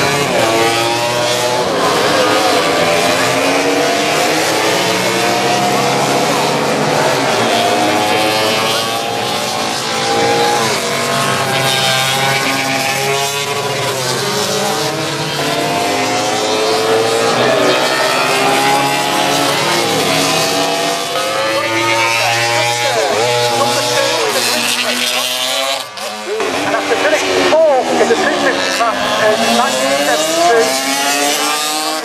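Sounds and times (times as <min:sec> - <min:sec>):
motorcycles racing past: 0:00.0 - 0:32.0.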